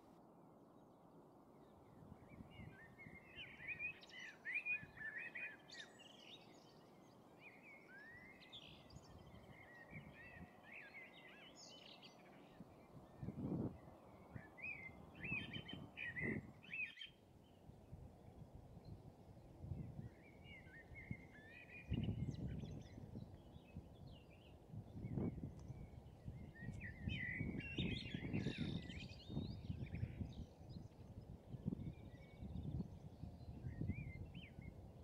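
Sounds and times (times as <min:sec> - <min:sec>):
songbirds chirping: 0:00.5 - 0:35.0.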